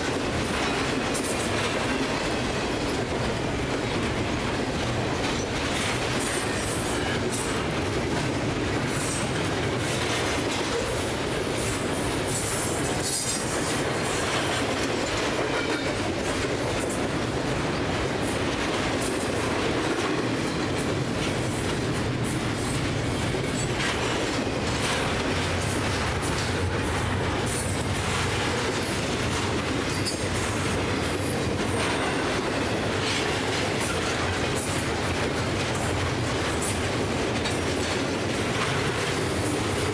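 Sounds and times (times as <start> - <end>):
train wheels rumbling on rail: 0.0 - 39.9
wheels clacking over rail joints: 0.0 - 39.9.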